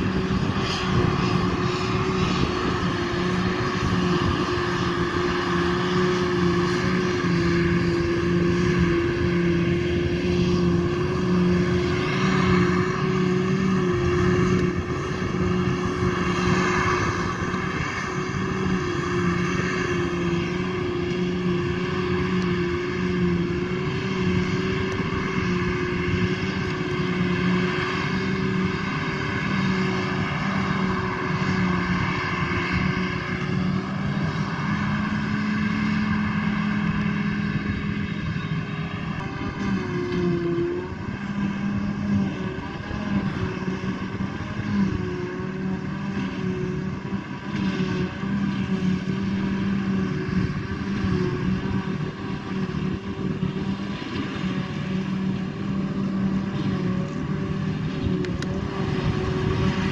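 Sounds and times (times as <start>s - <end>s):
forage harvester heavy drone: 0.0s - 59.9s.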